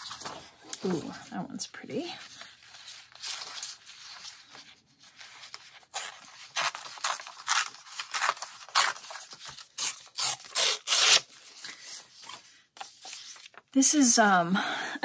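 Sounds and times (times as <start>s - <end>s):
paper rustling and tearing: 0.0s - 1.5s, 2.1s - 13.7s.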